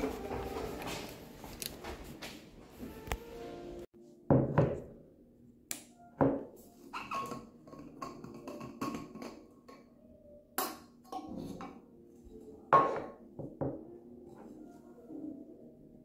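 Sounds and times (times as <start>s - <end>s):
quiet background music: 0.0s - 16.0s.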